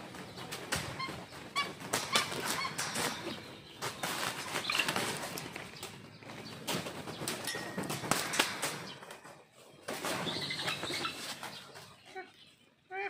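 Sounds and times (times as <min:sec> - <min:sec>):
eagles flapping wings: 0:00.0 - 0:11.8.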